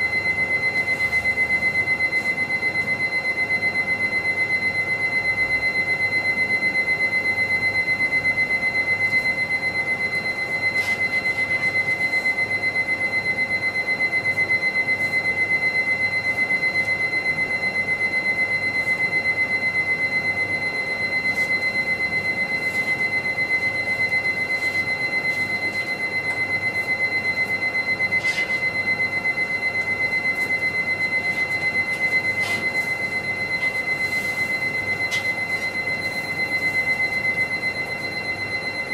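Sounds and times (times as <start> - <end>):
pulsing high-pitched electronic tone: 0.0 - 38.9.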